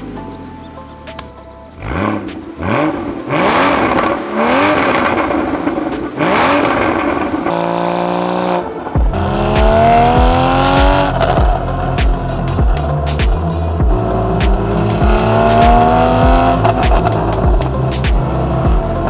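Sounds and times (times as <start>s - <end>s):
background music with steady beat: 0.0s - 8.1s, 8.8s - 19.0s
car engine accelerating: 0.0s - 19.0s.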